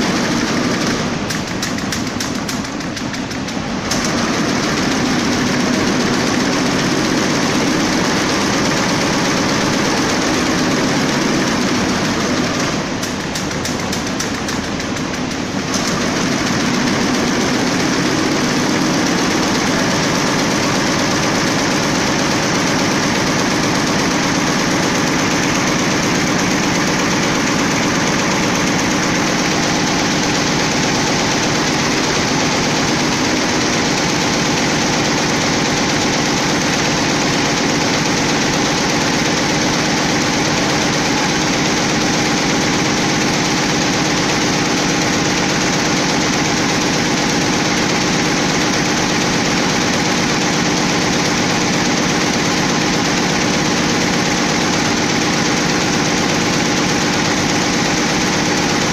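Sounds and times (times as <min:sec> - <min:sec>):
embroidery machine clattering: 0:00.0 - 0:58.9.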